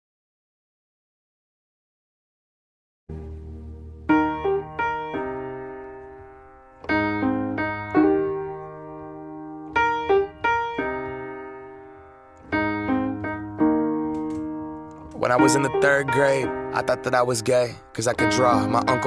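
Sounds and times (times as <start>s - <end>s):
slow piano chords: 3.1s - 19.0s.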